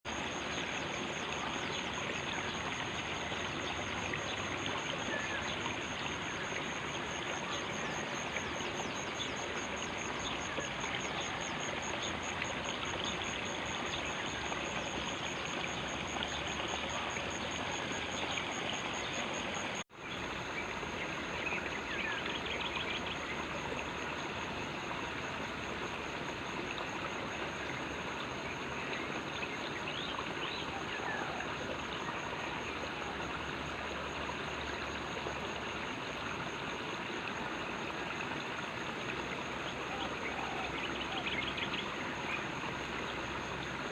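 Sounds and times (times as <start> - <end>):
stream water running: 0.0 - 43.9.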